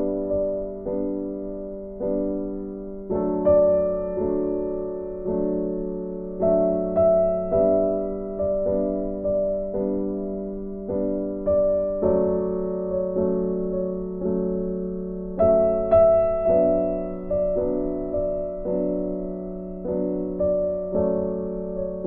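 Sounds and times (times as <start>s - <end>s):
slow gentle piano chords: 0.0s - 22.0s.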